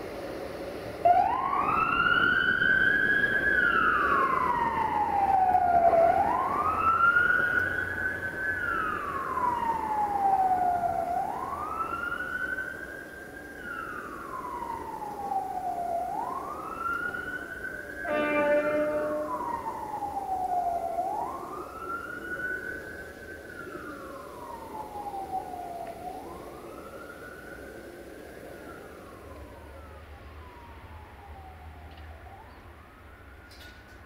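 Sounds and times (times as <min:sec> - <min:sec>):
siren wailing: 0:01.0 - 0:34.0.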